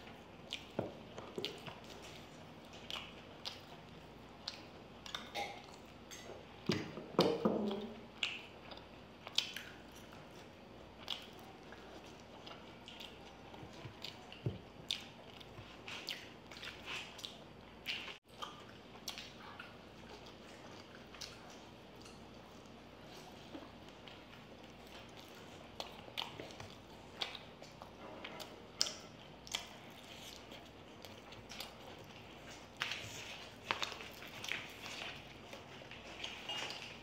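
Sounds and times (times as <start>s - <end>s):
wet chewing: 0.0s - 37.0s.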